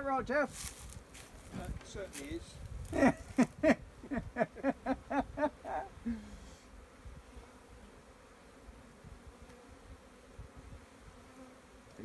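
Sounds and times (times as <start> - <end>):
honey bees humming: 0.8 - 12.0.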